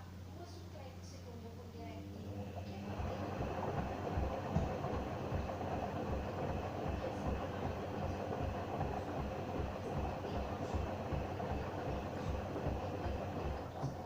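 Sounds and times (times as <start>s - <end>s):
washing machine drum thumping: 2.6s - 14.0s.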